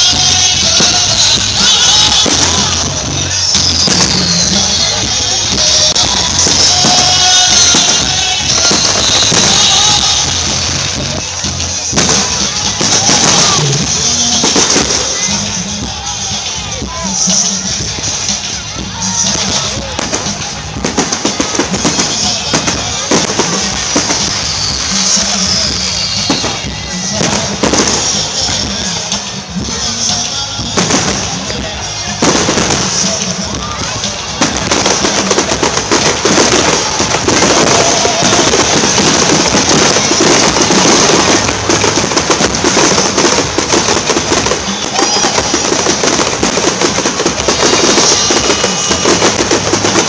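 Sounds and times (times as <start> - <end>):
fireworks bangs and crackles: 0.0 - 50.0
music playing: 0.0 - 50.0.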